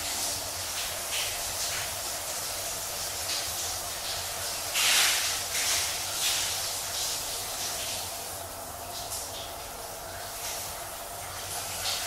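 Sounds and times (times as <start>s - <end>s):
shower water spraying: 0.0s - 8.3s, 9.0s - 12.0s.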